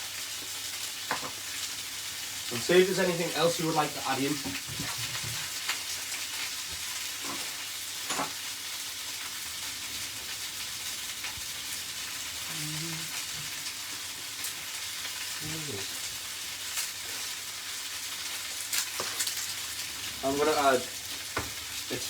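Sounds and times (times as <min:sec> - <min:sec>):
chicken wings sizzling in oil: 0:00.0 - 0:22.0.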